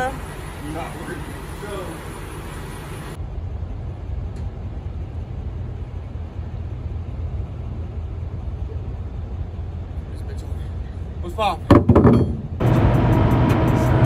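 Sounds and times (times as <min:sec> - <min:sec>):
vehicle engine idling: 0:00.0 - 0:11.7.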